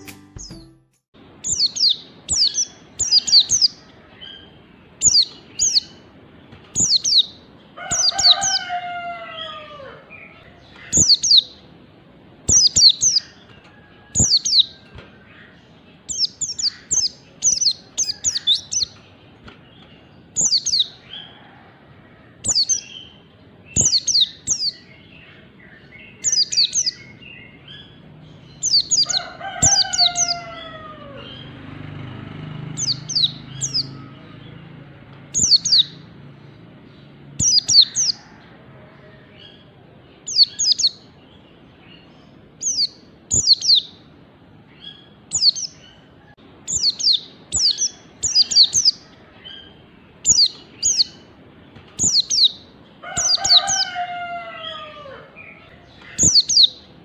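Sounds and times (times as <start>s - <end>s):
bird chirping high phrases: 0.0s - 21.3s, 22.4s - 38.3s, 39.5s - 44.2s, 44.8s - 57.0s.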